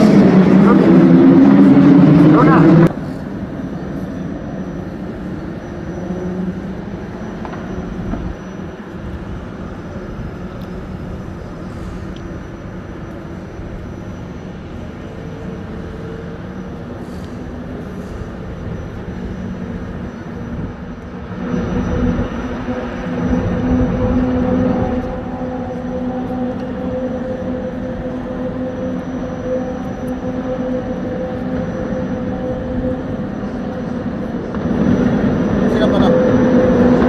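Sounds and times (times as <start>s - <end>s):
distant engine drone: 0.0s - 37.0s.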